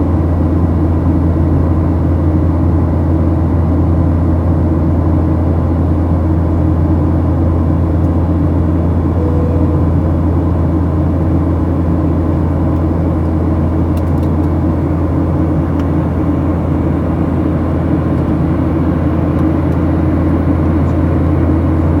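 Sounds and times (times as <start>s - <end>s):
jet engine drone in cabin: 0.0s - 22.0s.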